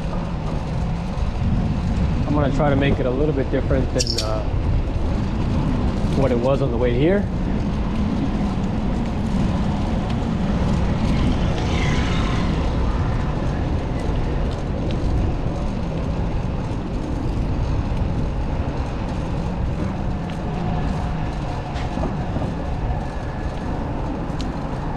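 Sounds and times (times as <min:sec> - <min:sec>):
city traffic: 0:00.0 - 0:24.9
wind rumble: 0:00.0 - 0:24.9.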